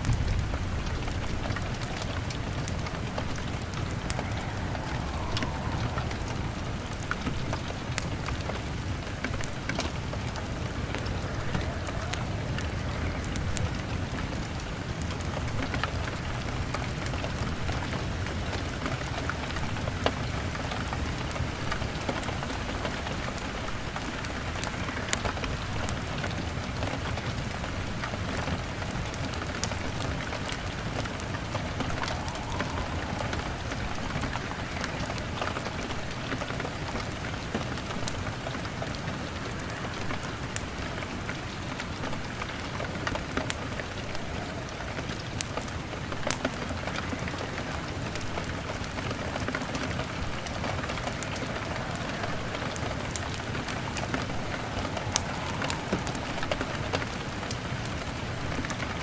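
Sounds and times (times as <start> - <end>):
heavy rain on a window: 0.0 - 59.0
log fire crackling: 0.0 - 59.0.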